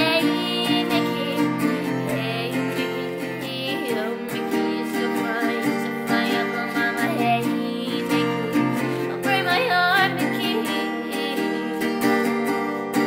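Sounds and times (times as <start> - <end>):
person singing: 0.0 - 13.0
strummed acoustic guitar: 0.0 - 13.0.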